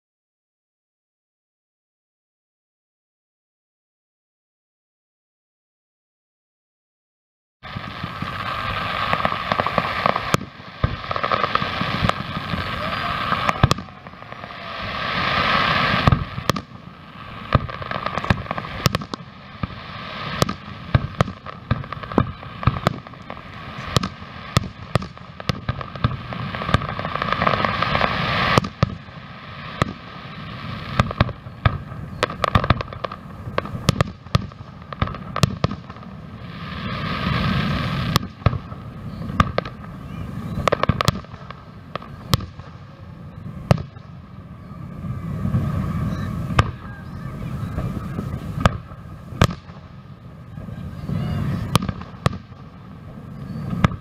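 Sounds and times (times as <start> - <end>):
fireworks bursting and crackling: 7.6 - 54.0.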